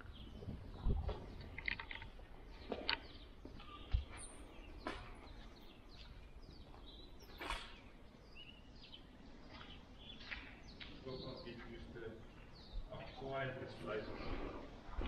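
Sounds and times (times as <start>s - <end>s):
faint bird chirps: 1.6s - 14.8s.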